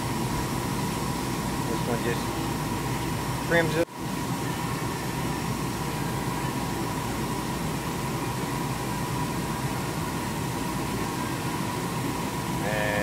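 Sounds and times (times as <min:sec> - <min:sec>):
coolant spraying hiss: 0:00.0 - 0:13.0.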